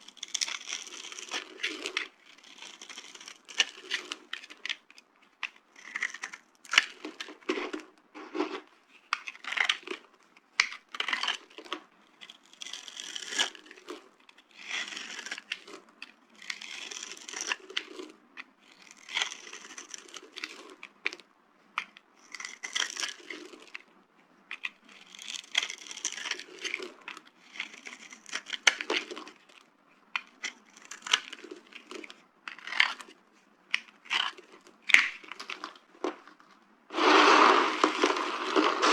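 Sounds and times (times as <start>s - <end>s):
dry soap crunching: 0.0s - 21.2s, 21.8s - 23.8s, 24.5s - 29.6s, 30.2s - 38.9s.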